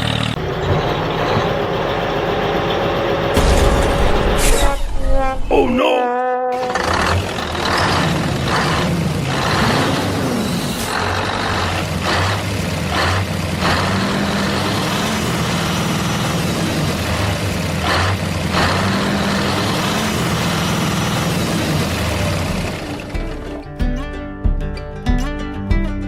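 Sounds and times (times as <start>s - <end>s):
heavy engine running: 0.0s - 5.6s, 6.6s - 23.8s.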